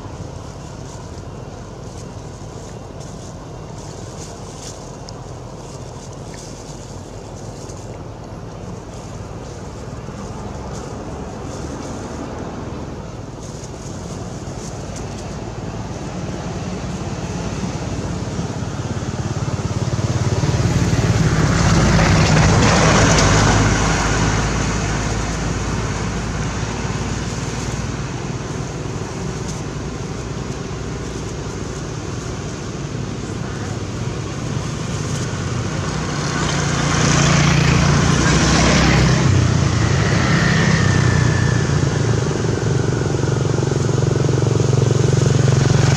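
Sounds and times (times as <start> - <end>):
traffic hum: 0.0 - 45.9
vehicle passing: 0.0 - 45.9.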